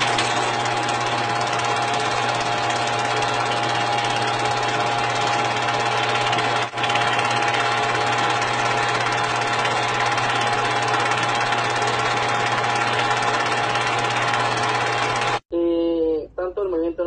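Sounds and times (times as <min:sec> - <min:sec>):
loud buzzing drone with rattle: 0:00.0 - 0:15.4.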